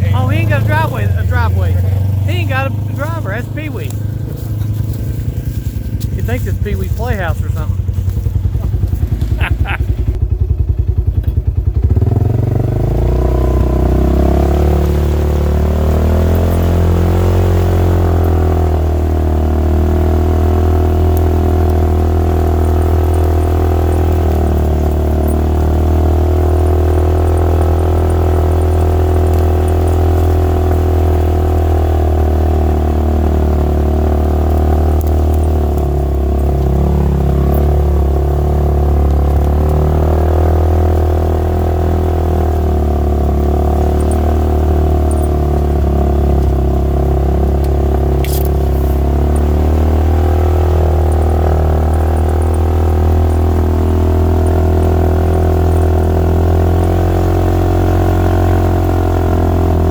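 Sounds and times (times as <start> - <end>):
vehicle engine running at low speed: 0.0 - 59.9.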